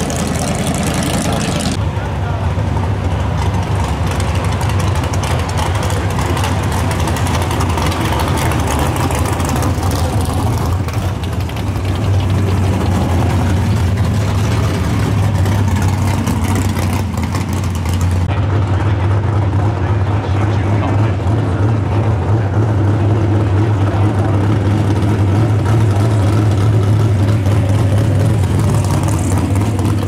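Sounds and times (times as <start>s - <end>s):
drag car engines idling: 0.0s - 30.0s.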